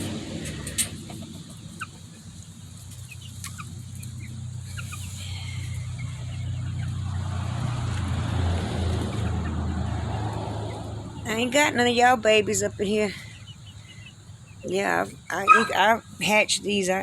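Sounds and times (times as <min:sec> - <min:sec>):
chicks peeping and clucking: 0:00.0 - 0:17.0.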